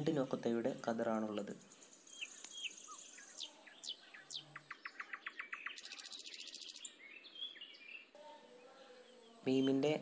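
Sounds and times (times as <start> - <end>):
small birds chirping: 0.0 - 10.0
high buzzy bird trill: 1.8 - 9.9.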